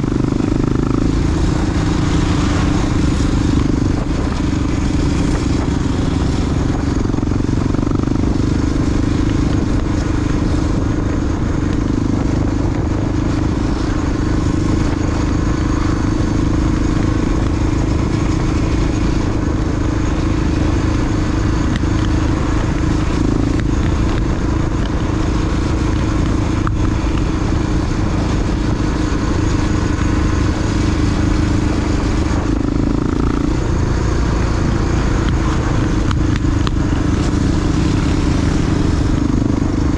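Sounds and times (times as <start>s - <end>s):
dirt bike engine running: 0.0s - 39.9s
wind and road noise: 0.0s - 39.9s.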